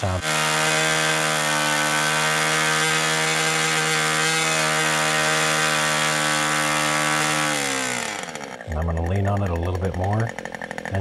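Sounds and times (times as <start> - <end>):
model airplane engine running: 0.0 - 11.0.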